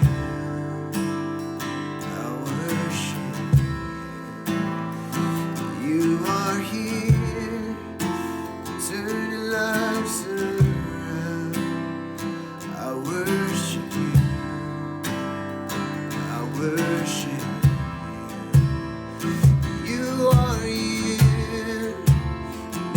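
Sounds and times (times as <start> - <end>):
acoustic guitar strumming chords: 0.0 - 22.9.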